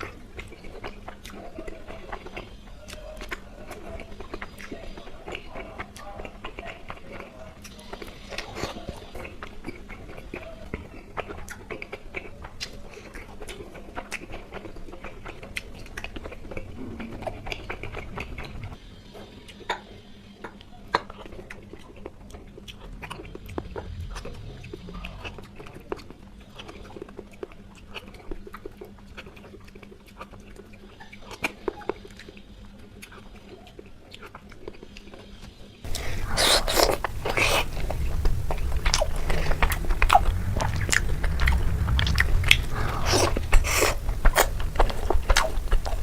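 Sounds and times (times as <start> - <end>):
wet chewing mouth sounds: 0.0 - 18.7, 20.5 - 35.1, 35.9 - 46.0.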